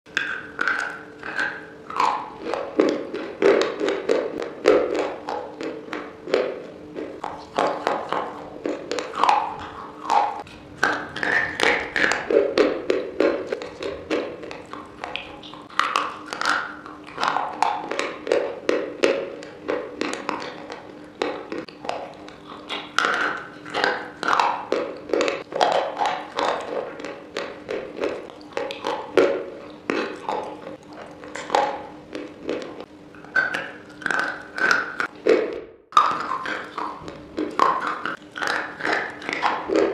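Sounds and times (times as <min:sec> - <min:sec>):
crunching chalk sticks: 0:00.1 - 0:39.9
wet mouth sounds: 0:00.1 - 0:39.9.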